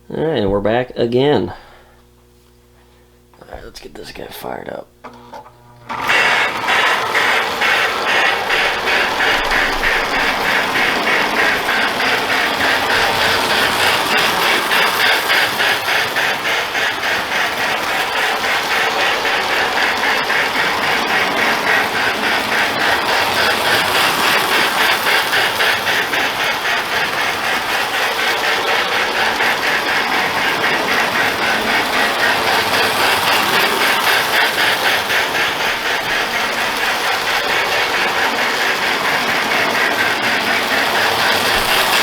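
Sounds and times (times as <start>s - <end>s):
toy train motor whirring: 5.1s - 42.0s.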